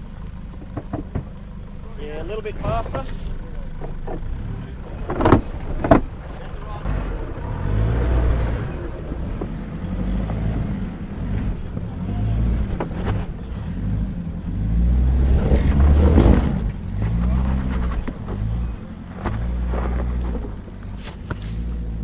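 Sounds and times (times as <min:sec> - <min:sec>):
diesel engine working under load: 0:00.0 - 0:22.0.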